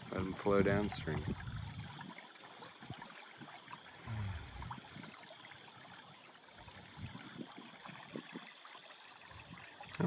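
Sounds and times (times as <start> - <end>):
creek water trickling: 0.0 - 10.0.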